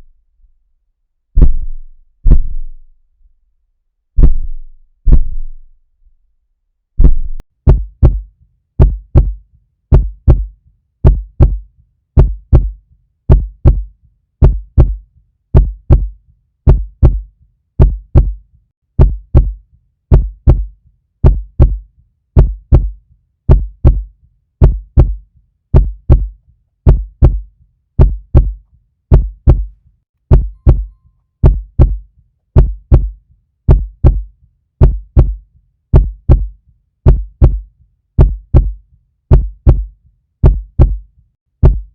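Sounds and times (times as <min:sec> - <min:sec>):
heartbeat thumps: 0:01.4 - 0:02.7, 0:04.2 - 0:05.5, 0:07.0 - 0:15.0, 0:15.6 - 0:18.4, 0:19.0 - 0:41.0, 0:41.6 - 0:41.9.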